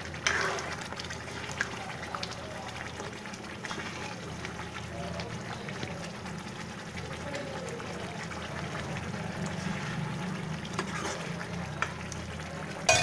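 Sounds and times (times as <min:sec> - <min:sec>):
ladle stirring: 0:00.0 - 0:05.8, 0:07.8 - 0:13.0
food bubbling and sizzling in oil: 0:00.0 - 0:13.0.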